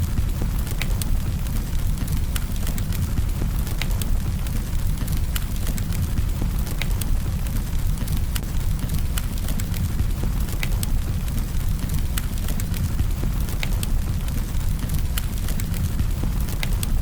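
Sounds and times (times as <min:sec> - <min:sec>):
burning wood crackling and popping: 0:00.0 - 0:17.0
low rumble of fire: 0:00.0 - 0:17.0.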